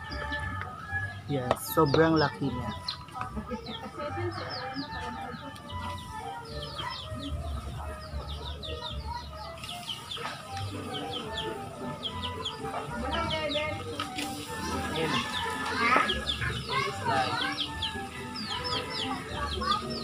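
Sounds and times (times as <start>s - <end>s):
chickens clucking: 0.0s - 20.0s
chicks peeping: 0.0s - 20.0s.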